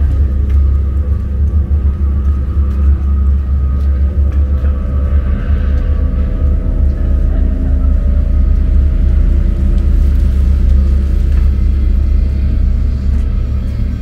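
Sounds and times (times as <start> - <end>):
low droning rumble: 0.0 - 14.0.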